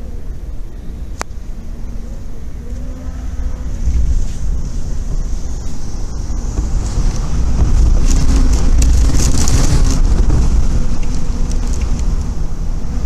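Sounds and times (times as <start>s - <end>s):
strong wind gusting: 0.0s - 13.0s
wind buffeting microphone: 0.0s - 13.0s.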